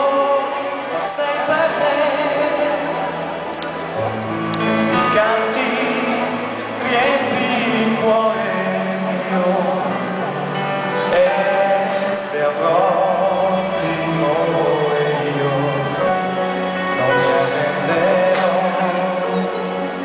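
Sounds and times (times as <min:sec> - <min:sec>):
man singing with vibrato: 0:00.0 - 0:20.0.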